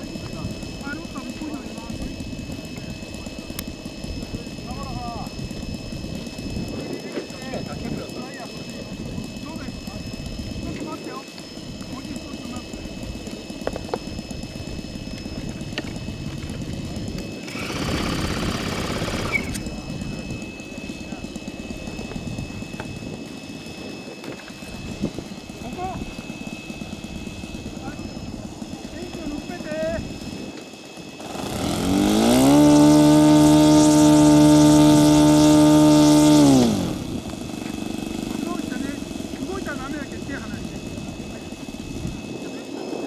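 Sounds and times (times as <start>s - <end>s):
model airplane engine buzzing: 0.0s - 43.0s.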